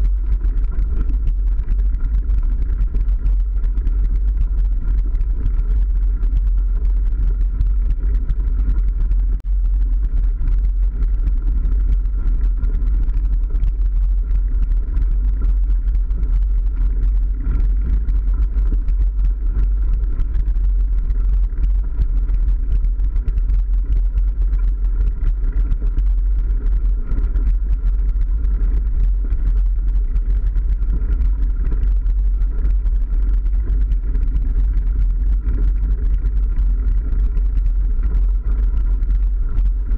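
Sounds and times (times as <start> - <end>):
bike ride vibration: 0.0 - 39.9.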